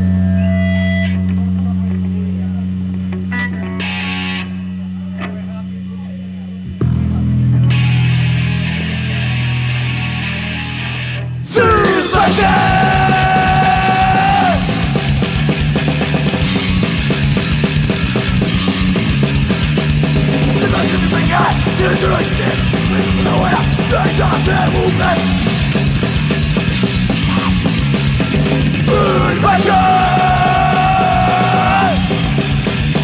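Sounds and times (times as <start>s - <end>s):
distorted electric guitar: 0.0s - 33.0s
punk rock band playing: 0.0s - 33.0s.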